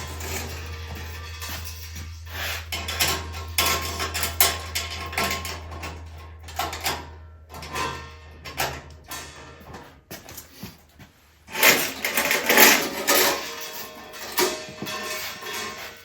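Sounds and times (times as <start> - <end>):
metal equipment clunking: 0.0 - 10.6, 11.5 - 16.0
steady low hum: 0.0 - 16.0.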